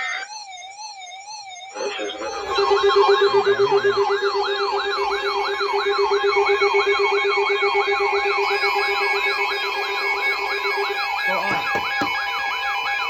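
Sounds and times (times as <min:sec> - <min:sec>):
electronic yelp siren: 0:00.0 - 0:13.0.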